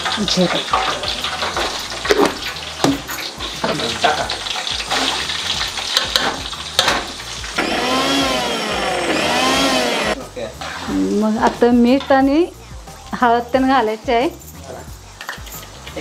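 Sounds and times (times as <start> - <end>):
seeds spluttering in hot oil: 0.0 - 9.5, 10.4 - 16.0
chillies frying in oil: 0.0 - 16.0.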